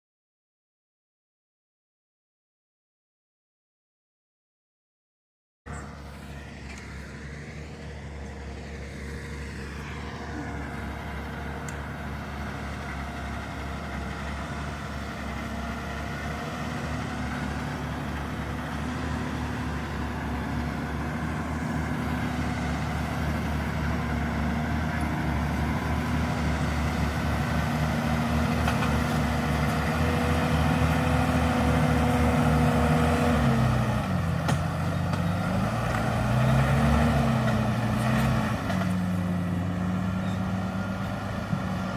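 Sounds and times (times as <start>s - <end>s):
tractor engine under load: 5.7s - 41.9s.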